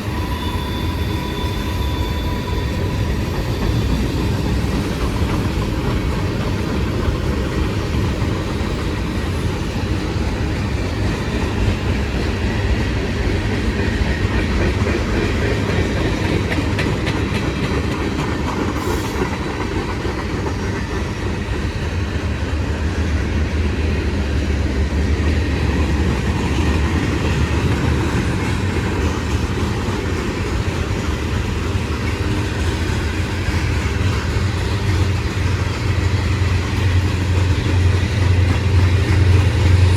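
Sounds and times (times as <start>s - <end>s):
train wheels rumbling on rails: 0.0s - 39.9s
wheels clicking over rail joints: 3.1s - 22.7s, 25.0s - 39.9s.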